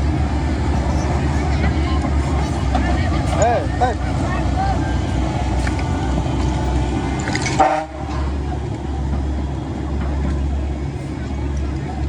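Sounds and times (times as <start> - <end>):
heavy machinery diesel engines: 0.0 - 12.0.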